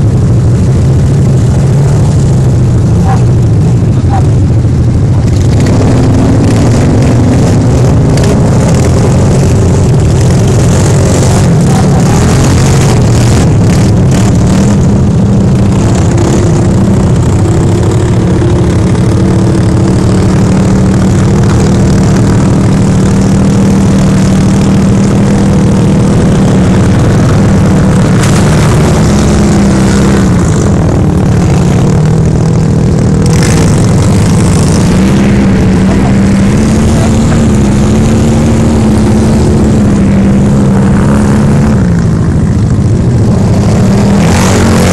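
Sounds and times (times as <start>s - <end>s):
utility vehicle engine drone: 0.0s - 44.9s.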